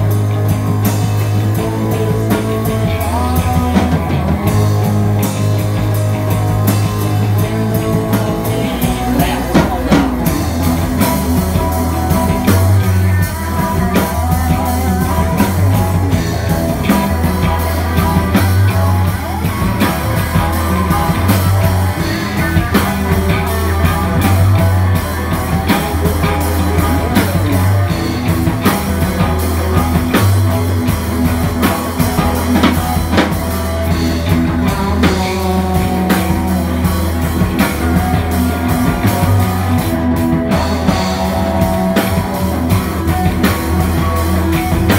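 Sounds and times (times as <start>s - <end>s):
person singing: 0.0s - 30.7s, 31.4s - 44.2s
drum kit: 0.0s - 44.9s
electric bass: 0.0s - 44.9s
electric guitar: 0.0s - 44.9s.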